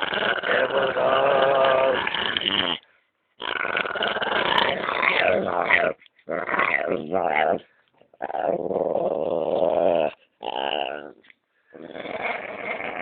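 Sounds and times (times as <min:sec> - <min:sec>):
dog growling and grumbling: 0:00.0 - 0:13.0.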